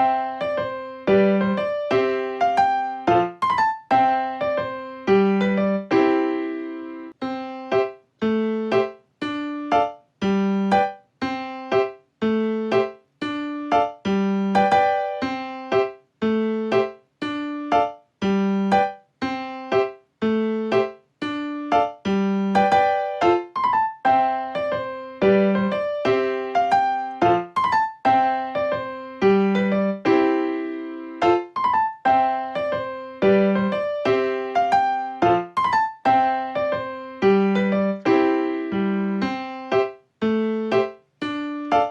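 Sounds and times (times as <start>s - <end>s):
piano melody: 0.0s - 41.9s.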